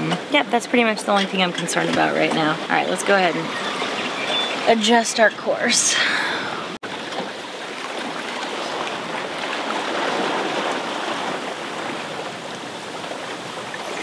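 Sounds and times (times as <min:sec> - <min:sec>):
water rushing past hull: 0:00.0 - 0:14.0.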